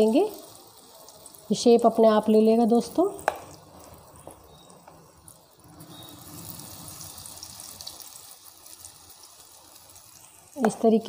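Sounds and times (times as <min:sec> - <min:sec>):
batter sizzling in hot oil: 0:00.0 - 0:11.0.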